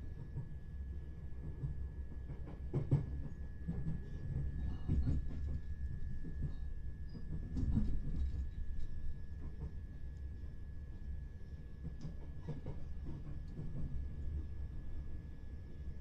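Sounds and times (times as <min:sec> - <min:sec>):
train interior rumble: 0:00.0 - 0:16.0.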